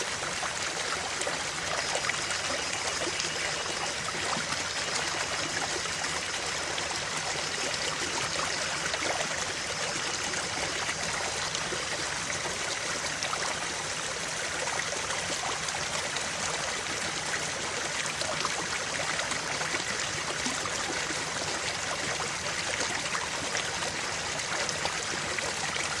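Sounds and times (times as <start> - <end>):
creek water flowing over rocks: 0.0 - 26.0.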